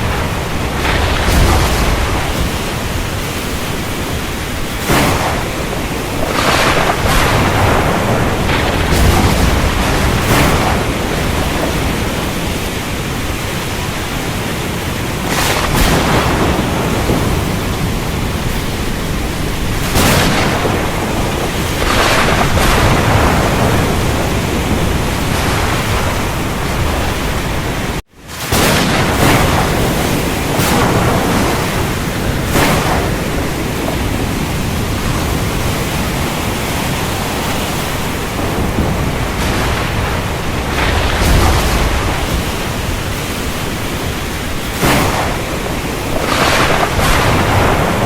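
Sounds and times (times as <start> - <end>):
low rolling thunder rumbles: 0.0 - 48.0
sharp thunder cracks: 0.0 - 48.0
steady rain hiss: 0.0 - 48.0.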